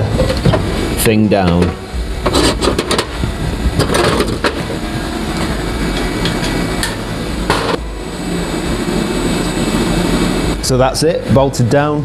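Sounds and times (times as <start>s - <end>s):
workshop machinery hum: 0.0s - 12.0s.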